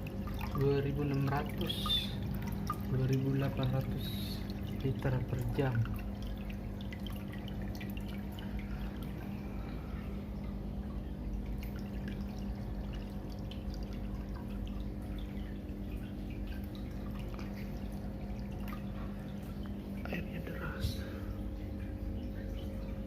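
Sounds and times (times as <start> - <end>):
electric pump hum: 0.0 - 23.0
water drips: 0.0 - 23.0
water pouring and splashing: 0.0 - 23.0.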